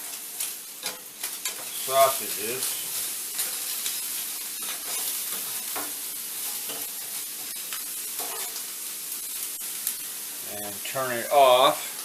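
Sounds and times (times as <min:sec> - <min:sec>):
sausages sizzling in a skillet: 0:00.0 - 0:12.0.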